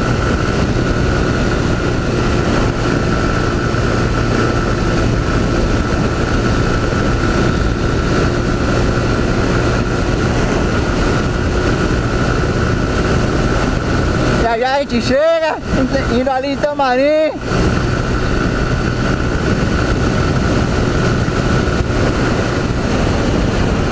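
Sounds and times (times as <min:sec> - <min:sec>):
motorcycle engine running hard: 0:00.0 - 0:23.9.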